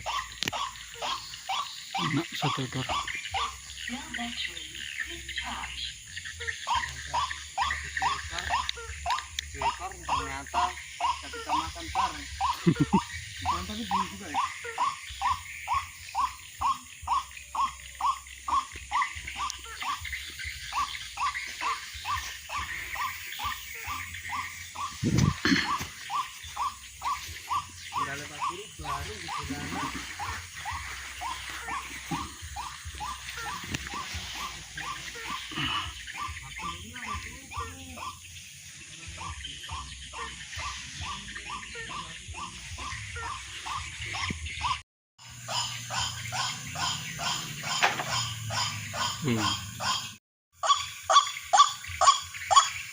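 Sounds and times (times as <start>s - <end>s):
waterhen calling: 0.0s - 52.9s.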